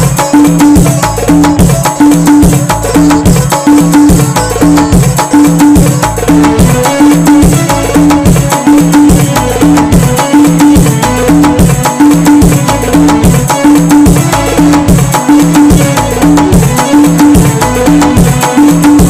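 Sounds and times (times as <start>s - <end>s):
music with percussive beat: 0.0s - 19.0s.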